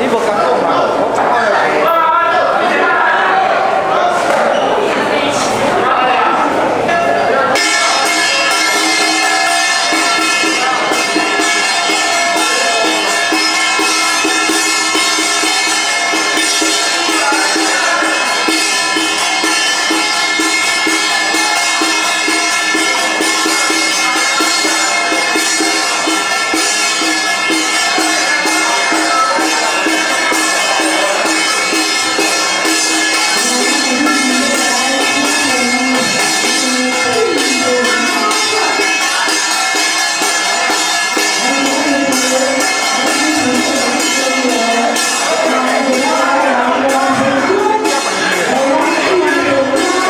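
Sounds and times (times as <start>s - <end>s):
jingling percussion music: 4.2s - 50.0s.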